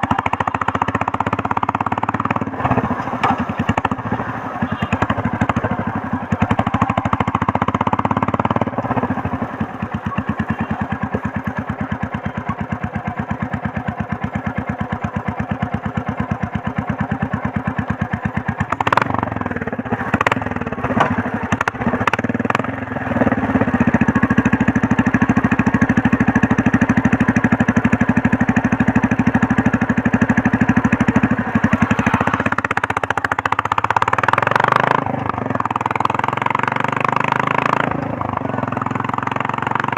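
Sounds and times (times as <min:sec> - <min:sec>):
motorcycle engine exhaust beat: 0:00.0 - 0:39.9.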